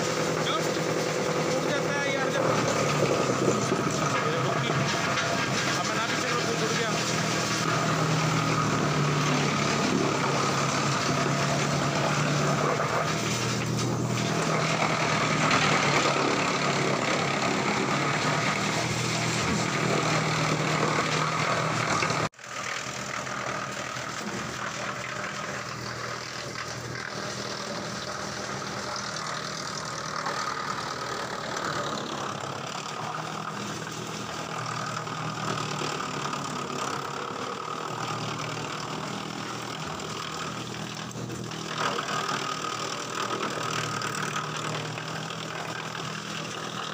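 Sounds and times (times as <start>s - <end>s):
wood chipper chipping wood: 0.0s - 46.9s.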